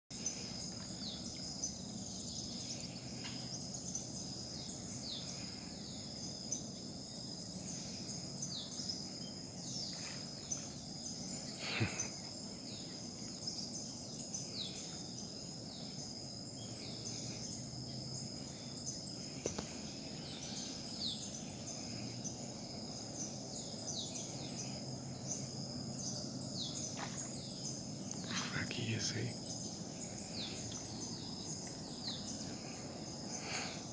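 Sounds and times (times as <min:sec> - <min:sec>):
insects droning: 0:00.1 - 0:33.9.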